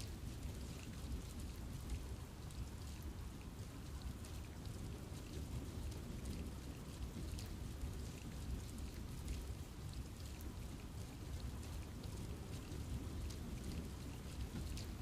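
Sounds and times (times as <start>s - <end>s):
continuous low rumble: 0.0s - 15.0s
raindrops ticking on leaves: 0.0s - 15.0s.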